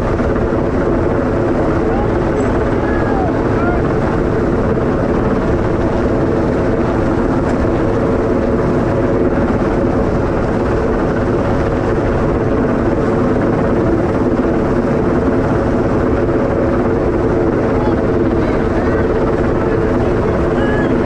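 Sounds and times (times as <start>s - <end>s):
helicopter hovering: 0.0s - 21.0s.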